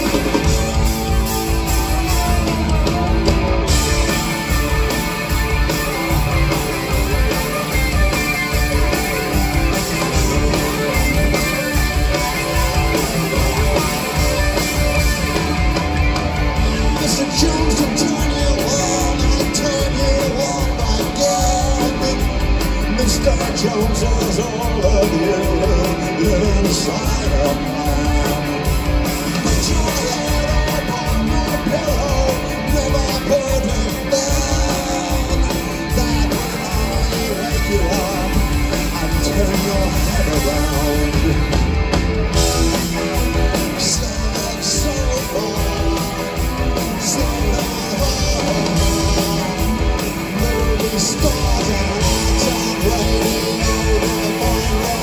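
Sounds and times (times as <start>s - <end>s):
live rock band playing loudly: 0.0s - 55.0s.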